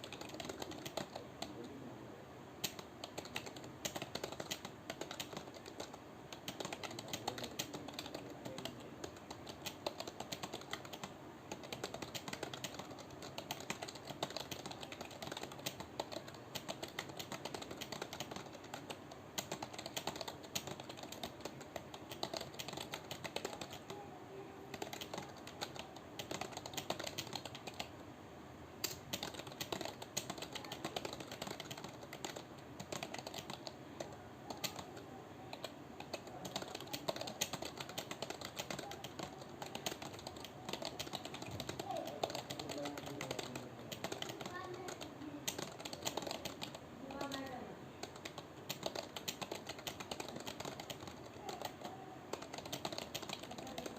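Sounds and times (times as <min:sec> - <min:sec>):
fast keyboard typing: 0:00.0 - 0:01.6, 0:02.6 - 0:24.0, 0:24.7 - 0:27.9, 0:28.8 - 0:53.9.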